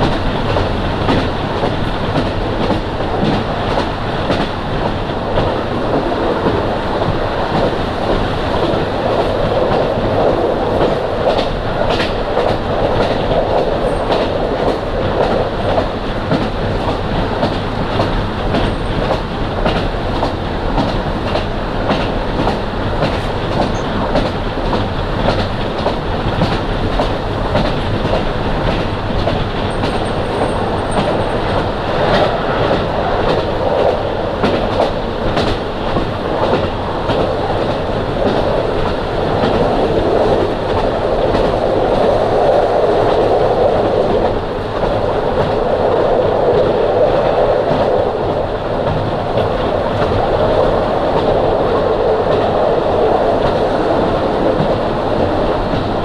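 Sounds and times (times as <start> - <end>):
railcar engine and wheel noise: 0.0 - 56.0.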